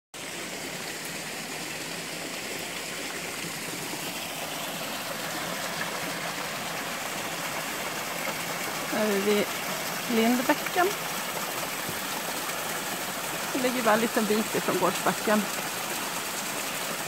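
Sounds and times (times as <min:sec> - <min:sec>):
water rushing over rocks: 0:00.2 - 0:17.0.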